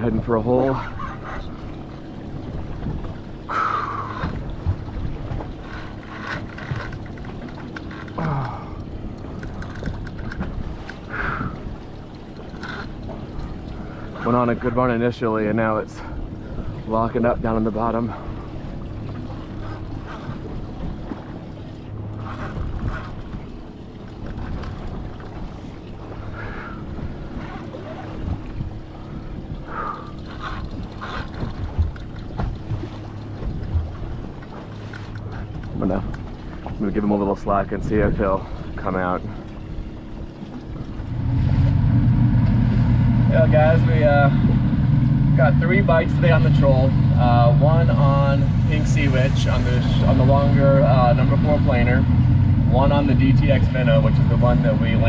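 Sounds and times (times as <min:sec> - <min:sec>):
choppy water around boat: 0:00.0 - 0:55.0
steady low hum: 0:00.0 - 0:55.0
wind: 0:00.0 - 0:55.0.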